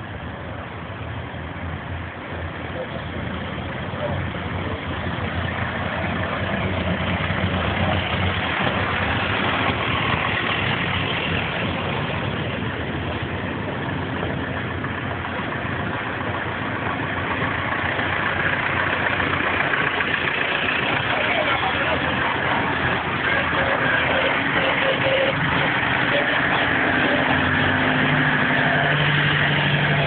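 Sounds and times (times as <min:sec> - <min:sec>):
tractor engines running: 0:00.0 - 0:30.0
tractor driving past: 0:02.7 - 0:30.0.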